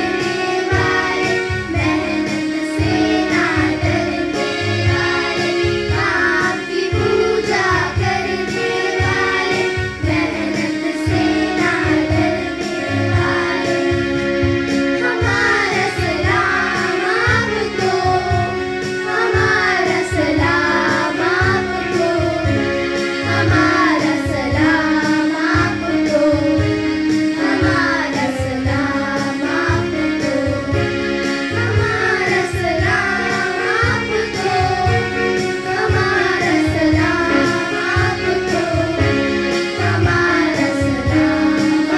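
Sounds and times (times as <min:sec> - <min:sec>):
children singing: 0:00.0 - 0:41.9
music with steady beat: 0:00.0 - 0:41.9.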